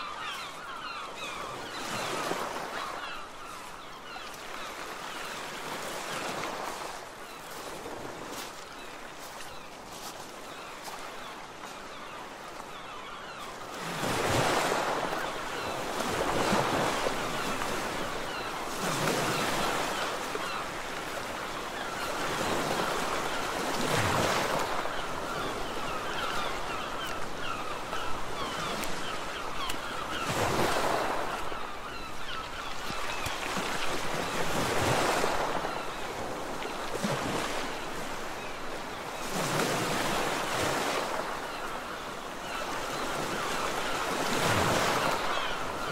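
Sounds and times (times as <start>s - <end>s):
wind: 0.0s - 45.9s.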